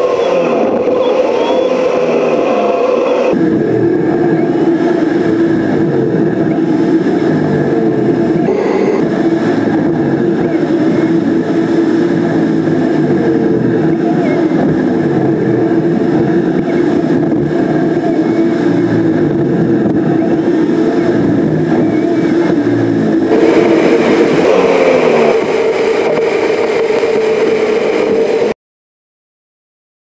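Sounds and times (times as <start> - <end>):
car engine: 0.0 - 28.6
road noise: 0.0 - 28.6.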